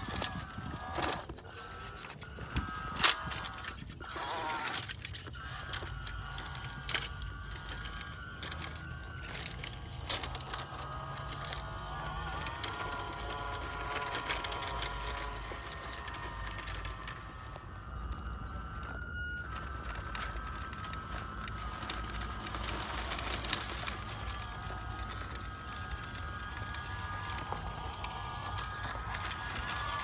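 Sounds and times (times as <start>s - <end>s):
toy car motor whining: 0.0s - 30.0s.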